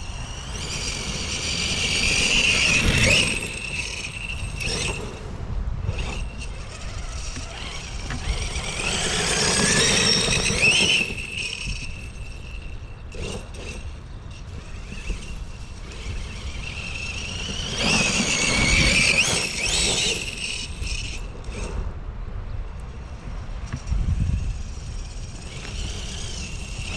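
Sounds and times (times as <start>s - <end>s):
rc truck motor whining: 0.0s - 22.0s, 22.6s - 26.9s.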